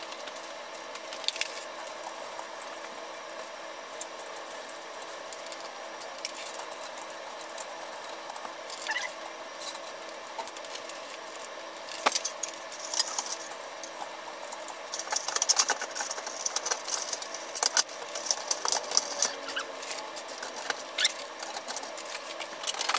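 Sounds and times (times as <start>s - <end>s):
faint hum: 0.0s - 22.9s
wires rustling: 0.0s - 22.9s.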